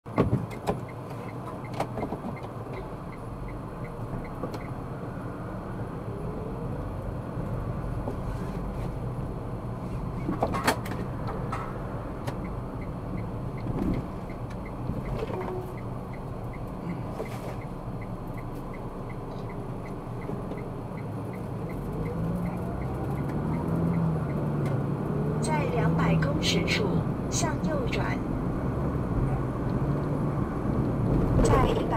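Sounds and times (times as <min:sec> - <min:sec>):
car road and engine rumble: 0:00.0 - 0:31.9.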